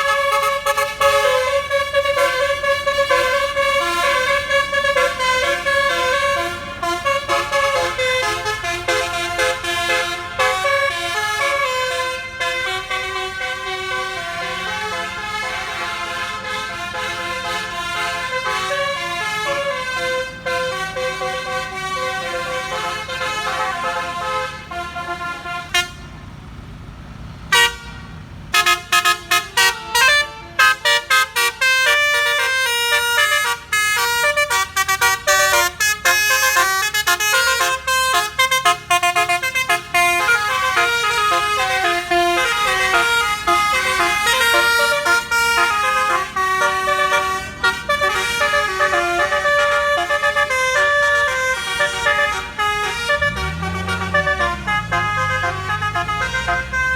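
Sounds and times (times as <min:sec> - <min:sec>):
bus multi-trumpet horn melody: 0:00.0 - 0:26.6, 0:27.4 - 0:56.9
passing traffic rush: 0:00.0 - 0:56.9.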